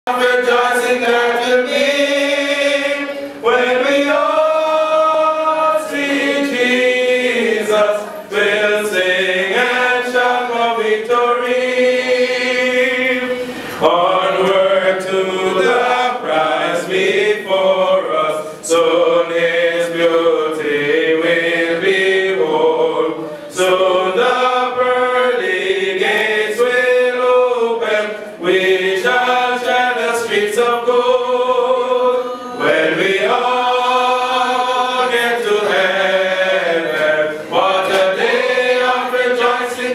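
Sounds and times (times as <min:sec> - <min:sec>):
voices singing a hymn: 0:00.1 - 0:39.9.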